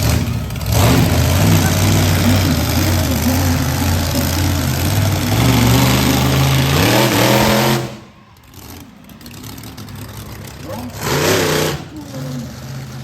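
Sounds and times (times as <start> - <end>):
truck engine running and revving: 0.0 - 13.0.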